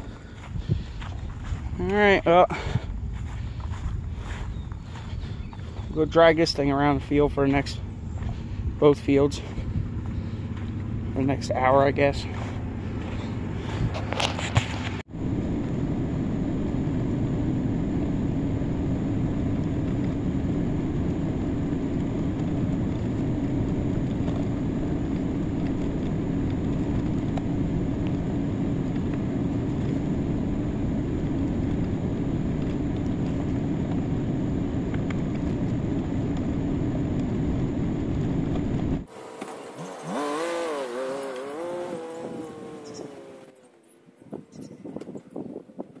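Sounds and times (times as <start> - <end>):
tractor engine running: 0.0 - 45.5.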